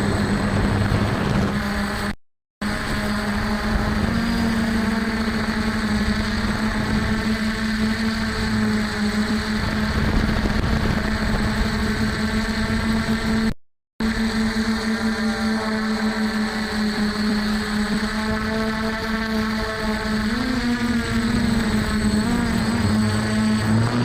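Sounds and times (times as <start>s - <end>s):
drone motors humming: 0.0s - 24.0s.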